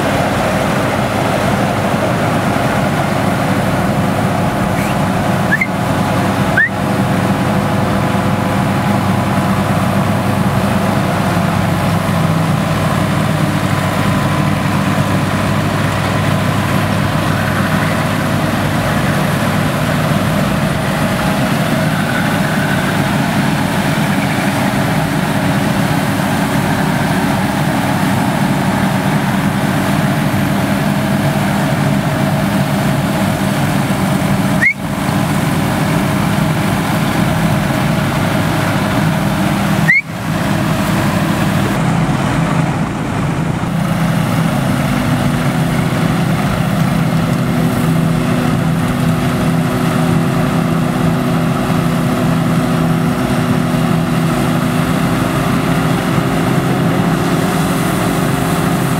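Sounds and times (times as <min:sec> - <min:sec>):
tractors and combine machinery drone: 0:00.0 - 0:58.9.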